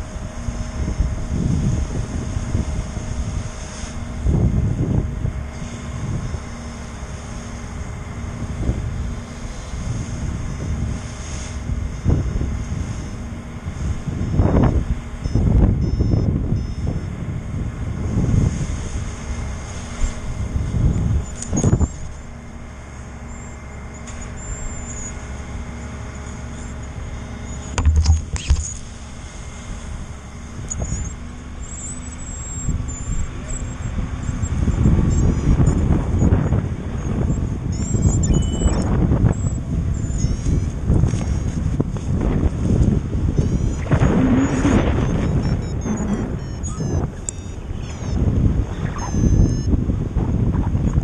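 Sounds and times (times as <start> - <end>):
wind gusting on microphone: 0.0 - 22.5, 32.6 - 51.0
faint steady drone: 0.0 - 51.0.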